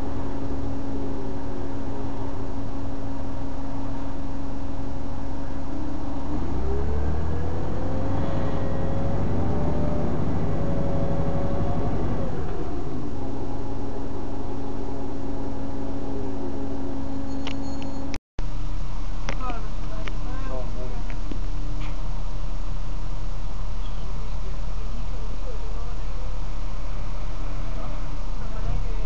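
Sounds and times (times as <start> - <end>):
bus engine running: 0.0 - 18.2, 19.4 - 29.0
rising whine: 0.0 - 29.0.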